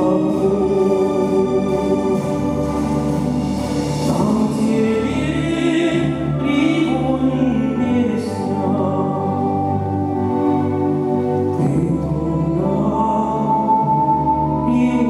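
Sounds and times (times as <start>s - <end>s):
grand piano accompaniment: 0.0s - 15.0s
man singing classical melody: 0.0s - 15.0s.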